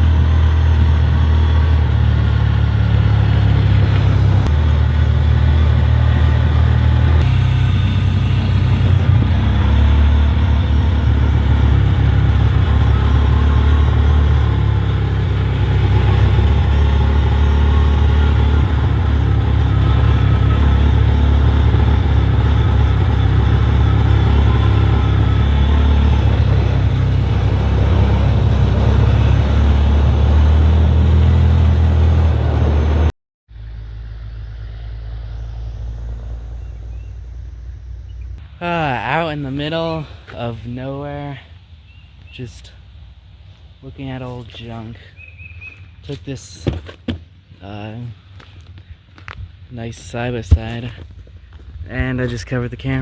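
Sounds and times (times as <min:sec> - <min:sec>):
utility vehicle engine droning: 0:00.0 - 0:53.0.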